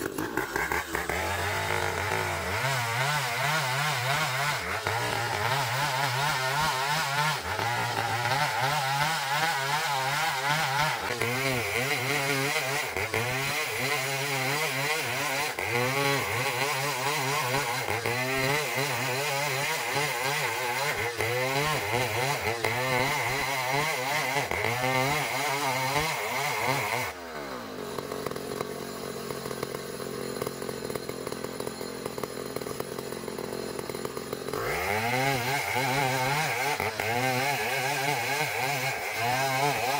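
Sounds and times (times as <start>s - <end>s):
saw blade cutting wood: 0.0s - 39.9s
sawmill engine running under load: 0.0s - 39.9s.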